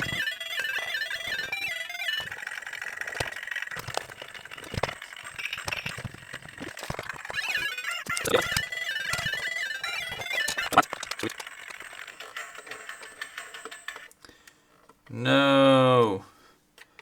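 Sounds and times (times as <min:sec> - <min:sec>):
plastic casing clicks and rattles: 0:00.0 - 0:14.1
tinny electronic toy tunes: 0:00.0 - 0:14.2.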